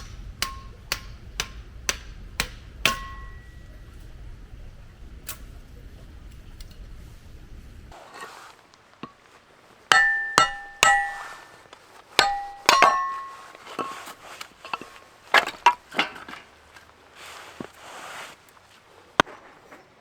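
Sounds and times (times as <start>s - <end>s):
metal camping gear clanking: 0.0s - 4.2s, 7.9s - 20.0s.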